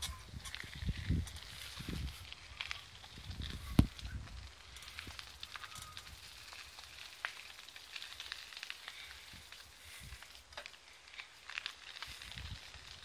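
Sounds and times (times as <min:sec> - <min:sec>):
bicycle tyres on gravel: 0:00.0 - 0:13.0.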